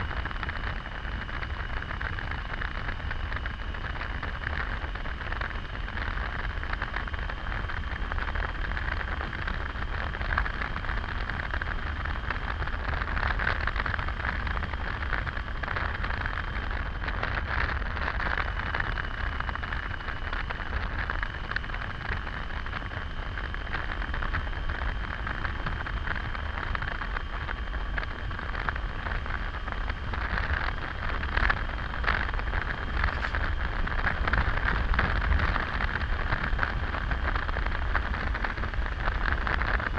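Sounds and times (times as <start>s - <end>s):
faint steady whine: 0.0s - 39.9s
wind rush and road noise: 0.0s - 39.9s.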